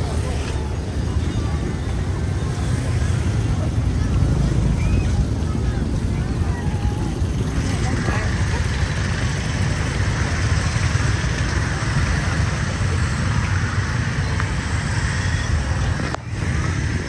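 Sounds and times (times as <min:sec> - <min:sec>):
car and motorbike traffic: 0:00.0 - 0:17.0
crowd voices: 0:00.0 - 0:17.0.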